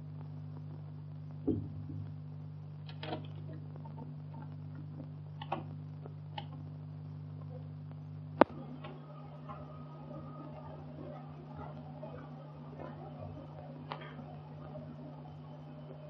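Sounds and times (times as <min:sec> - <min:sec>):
low soundtrack hum: 0:00.0 - 0:16.0.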